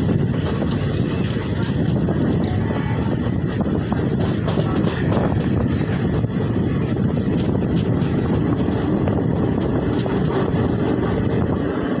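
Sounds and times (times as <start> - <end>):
train rumbling along track: 0.0 - 12.0.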